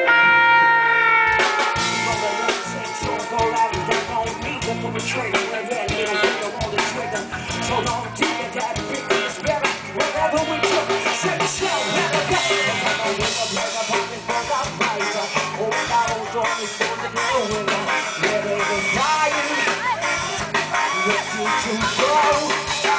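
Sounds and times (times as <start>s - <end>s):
drum kit beat: 0.0s - 22.9s
live rock band playing: 0.0s - 22.9s.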